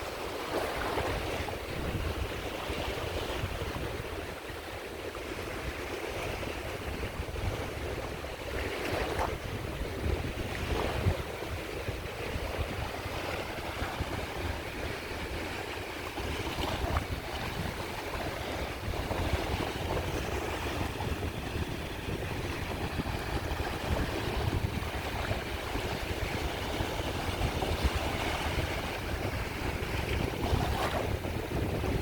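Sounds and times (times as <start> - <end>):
sea waves washing on shore: 0.0 - 32.0
wind noise on microphone: 0.0 - 32.0.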